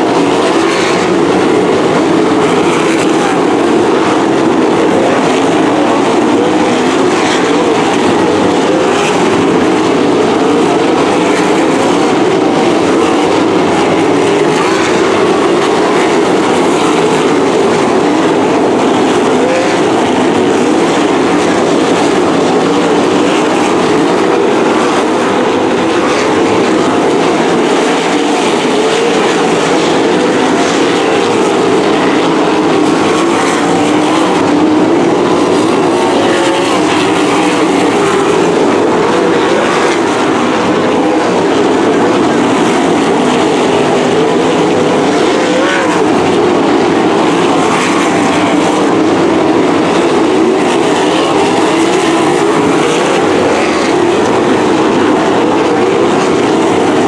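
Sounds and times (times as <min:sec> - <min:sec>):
race car engines running hard: 0:00.0 - 0:57.0.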